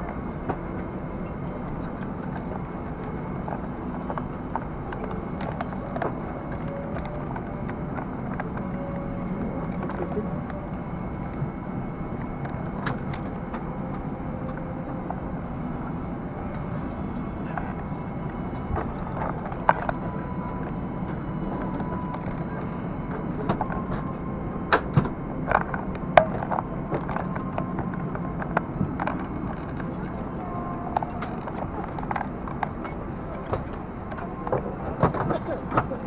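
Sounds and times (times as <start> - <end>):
airliner cabin hum: 0.0 - 36.0.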